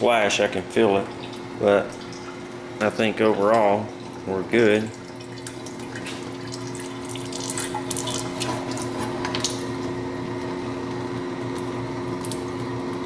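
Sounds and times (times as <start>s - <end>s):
coolant pump hum: 0.0s - 13.0s
coolant pouring and splashing: 0.1s - 13.0s.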